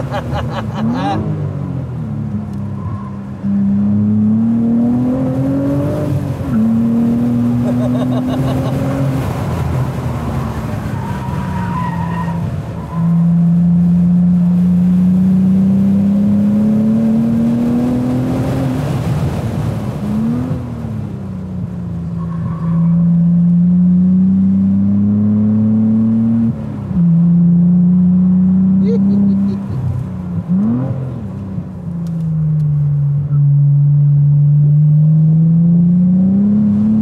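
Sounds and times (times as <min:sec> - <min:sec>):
car engine pulling hard: 0:00.0 - 0:37.0.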